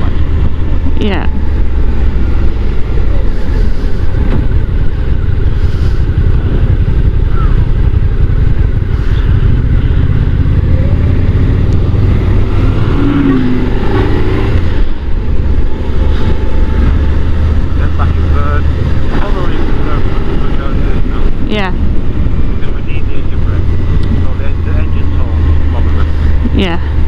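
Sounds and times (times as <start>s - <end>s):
motorcycle engine rumble: 0.0s - 27.0s
wind rush on microphone: 0.0s - 27.0s.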